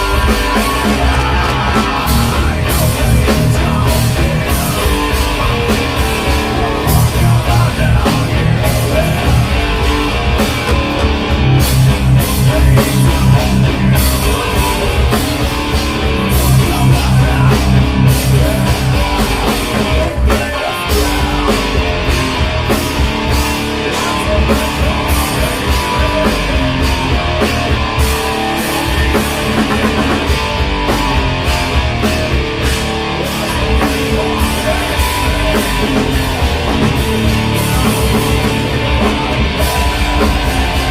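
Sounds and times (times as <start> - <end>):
drum kit: 0.0 - 40.9
electric guitar: 0.0 - 40.9.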